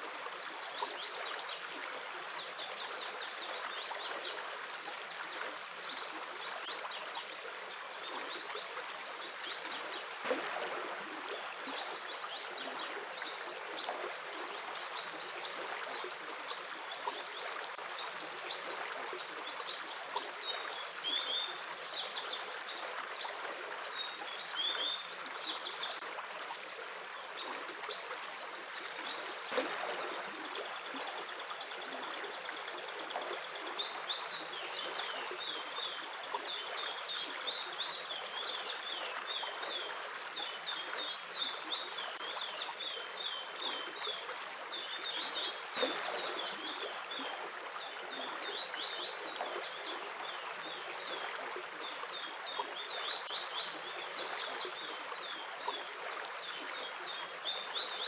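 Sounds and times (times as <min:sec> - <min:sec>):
stream trickling over rocks: 0:00.0 - 0:58.0
water splashes: 0:00.0 - 0:58.0.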